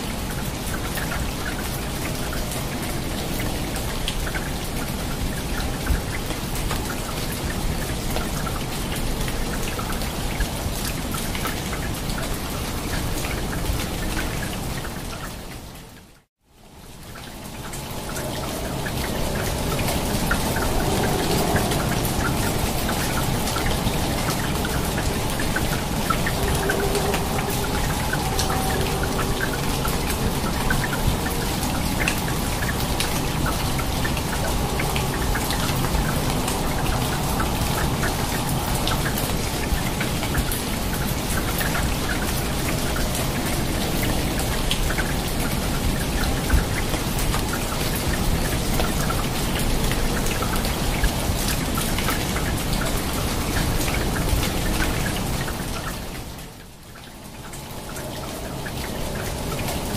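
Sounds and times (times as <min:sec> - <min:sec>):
rain falling on foliage: 0:00.0 - 0:59.9
raindrops striking close by: 0:00.0 - 0:59.9.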